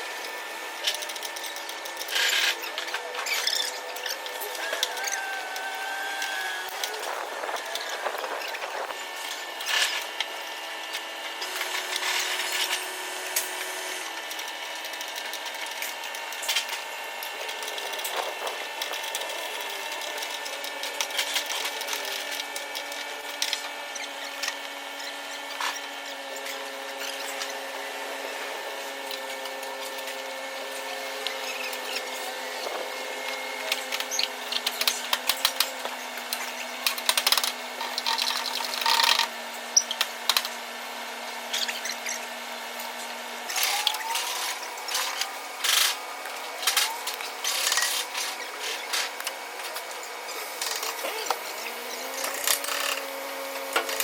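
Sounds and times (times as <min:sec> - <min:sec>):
power tool motor whine: 0:00.0 - 0:54.0.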